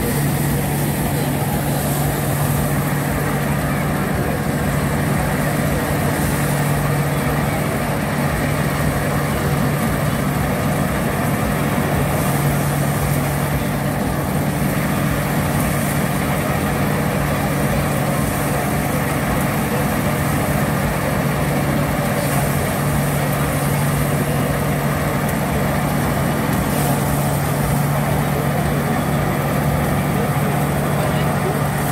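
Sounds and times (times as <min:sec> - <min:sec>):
threshing machine droning: 0:00.0 - 0:31.9.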